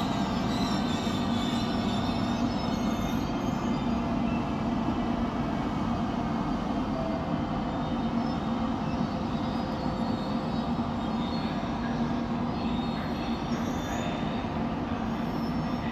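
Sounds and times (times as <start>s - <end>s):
faint high wheel squeals: 0.0s - 4.6s, 6.6s - 15.9s
train rumble: 0.0s - 15.9s.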